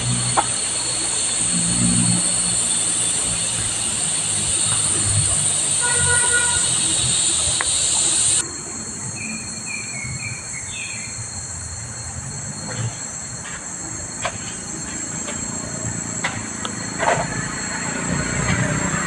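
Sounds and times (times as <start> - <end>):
buzzing cicada chorus: 0.0 - 19.0
high-pitched insect drone: 0.0 - 19.0.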